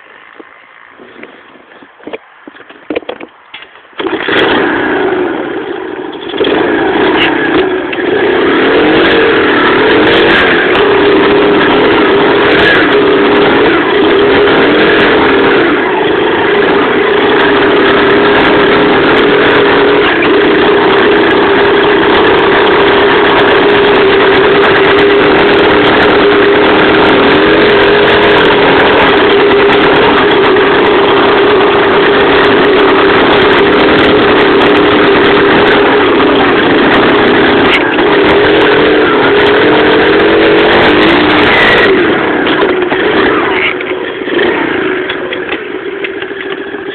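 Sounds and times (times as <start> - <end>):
pit bike engine running: 0.0 - 46.9.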